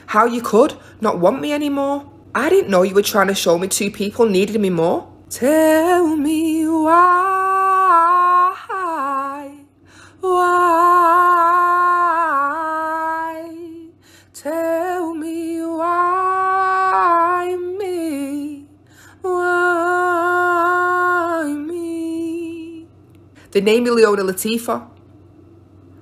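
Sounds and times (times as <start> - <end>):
woman singing: 0.0 - 22.9.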